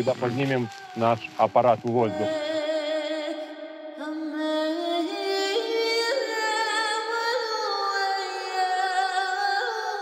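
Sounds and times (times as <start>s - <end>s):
wordless high voice singing: 1.9s - 10.0s.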